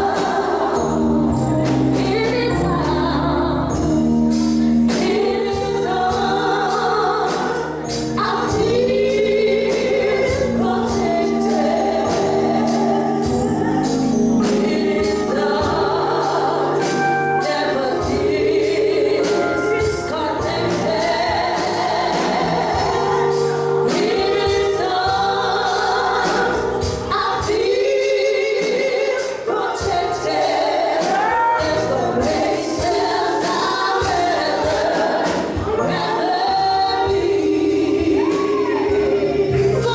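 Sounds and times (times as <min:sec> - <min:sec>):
drums steady beat: 0:00.0 - 0:03.1, 0:03.7 - 0:39.9
band playing: 0:00.0 - 0:39.9
choir singing gospel song: 0:00.0 - 0:39.9.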